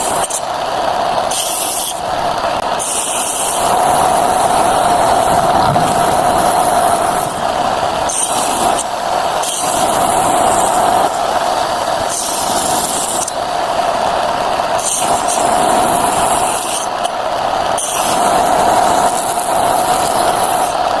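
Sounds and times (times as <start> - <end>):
saw blade cutting wood: 0.0 - 0.6, 1.2 - 13.8, 14.7 - 20.8
electric saw motor whine: 0.0 - 21.0.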